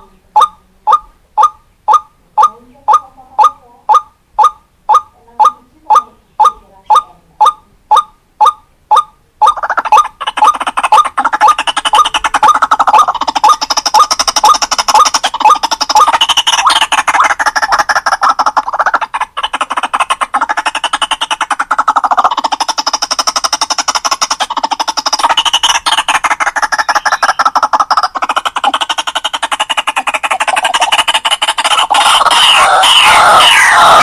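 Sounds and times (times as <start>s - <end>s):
waterhen calling: 0.0s - 34.0s.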